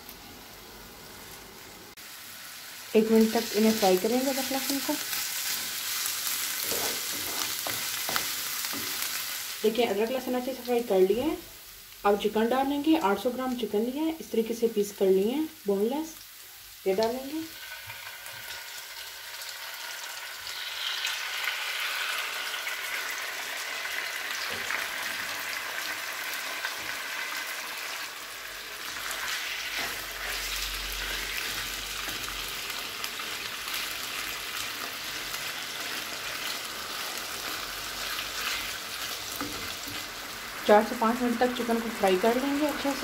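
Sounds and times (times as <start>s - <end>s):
chicken sizzling in oil: 0.0s - 43.0s.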